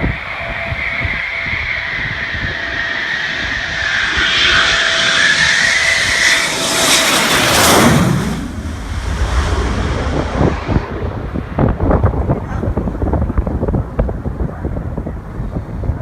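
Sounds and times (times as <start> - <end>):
jet passing with turbine whine: 0.0 - 13.5.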